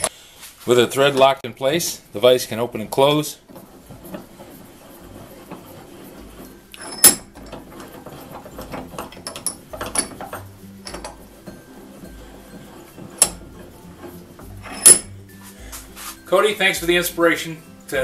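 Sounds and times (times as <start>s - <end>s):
bench vise metal rubbing: 0.0s - 18.0s.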